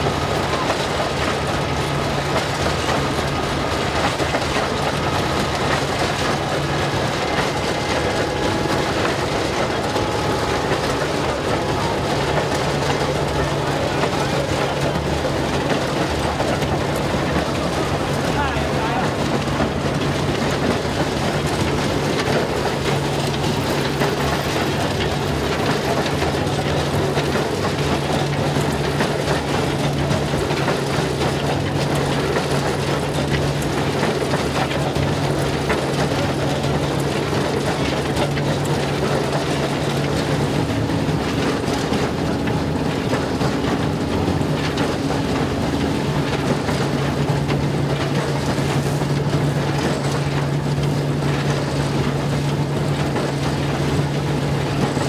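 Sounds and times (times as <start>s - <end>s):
constant rushing noise: 0.0s - 55.0s
higher machine hum: 0.0s - 55.0s
low mechanical hum: 0.0s - 55.0s.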